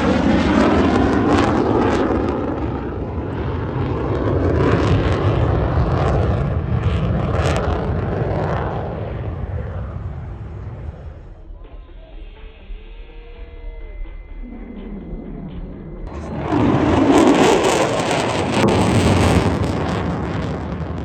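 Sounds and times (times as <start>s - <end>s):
aircraft flying past: 0.0s - 11.4s, 14.9s - 21.0s.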